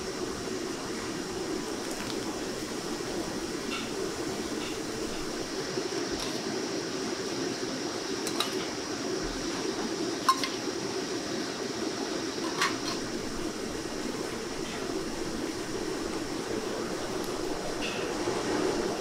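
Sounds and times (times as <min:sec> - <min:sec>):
ventilation fans humming: 0:00.0 - 0:19.0.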